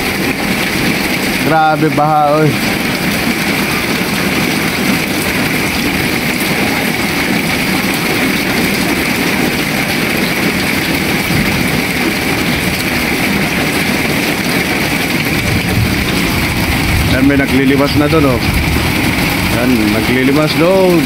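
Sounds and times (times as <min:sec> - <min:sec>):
heavy rain on flooded street: 0:00.0 - 0:21.0.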